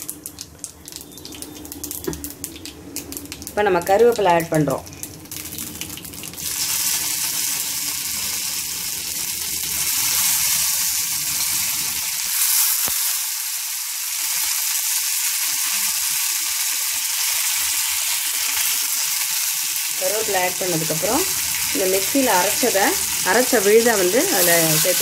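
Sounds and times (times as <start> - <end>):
seeds sizzling in hot oil: 0.0 - 4.2, 4.9 - 25.0.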